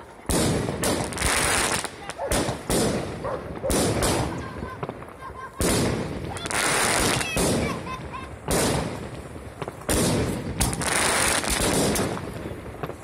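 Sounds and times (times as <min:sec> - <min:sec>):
fireworks crackling: 0:00.0 - 0:13.0
fireworks bangs: 0:00.2 - 0:13.0.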